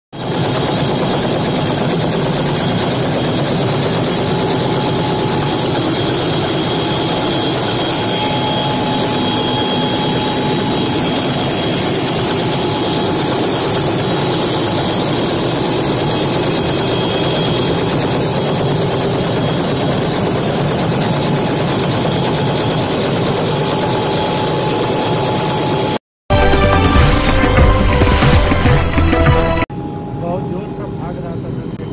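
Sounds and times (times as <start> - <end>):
high steady whine: 0.2 - 25.8
helicopter turbine engine running: 0.2 - 26.0.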